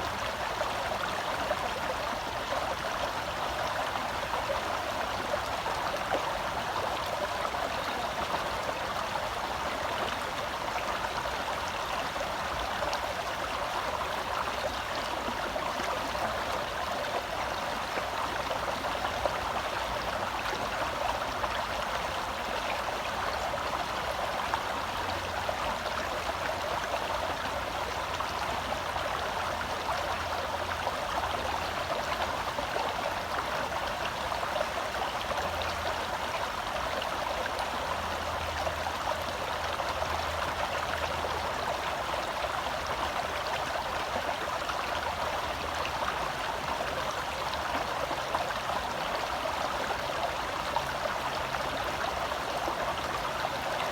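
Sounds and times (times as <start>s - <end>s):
forest stream flowing: 0.0s - 53.9s.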